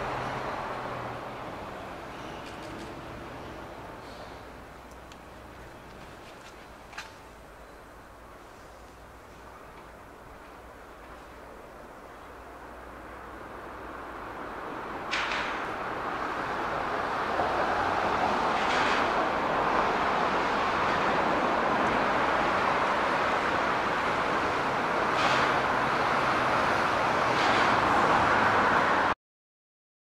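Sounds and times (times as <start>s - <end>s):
locomotive rumbling: 0.0s - 29.1s.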